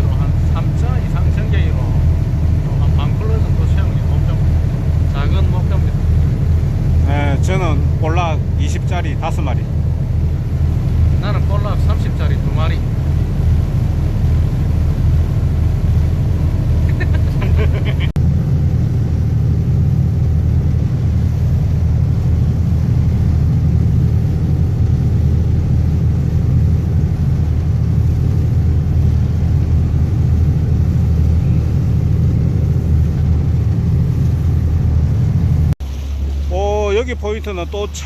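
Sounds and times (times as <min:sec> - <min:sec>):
boat engine rumbling: 0:00.0 - 0:38.0.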